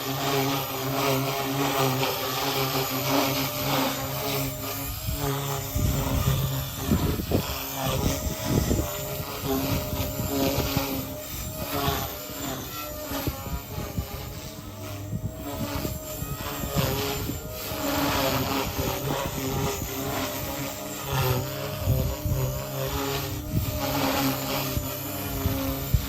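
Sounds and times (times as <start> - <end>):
rc helicopter rotor whine: 0.0 - 26.0.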